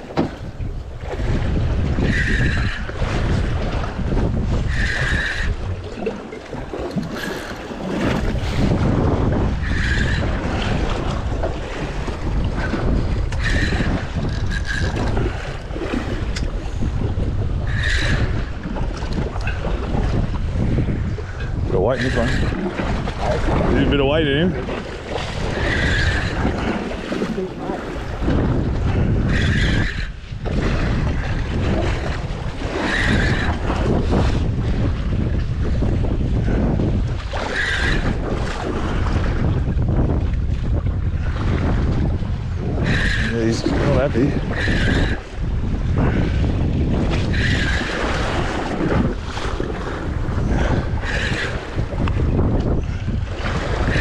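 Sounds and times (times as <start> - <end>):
water slapping around boat: 0.0 - 54.0
wind buffeting microphone: 0.0 - 54.0.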